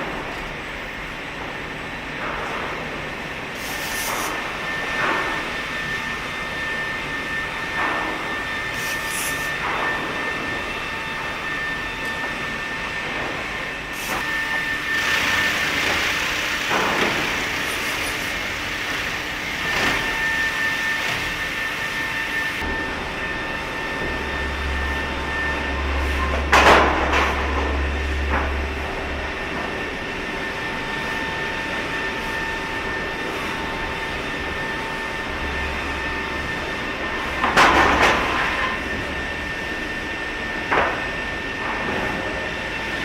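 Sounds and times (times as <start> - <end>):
wood planer machine hum: 3.8 - 43.0.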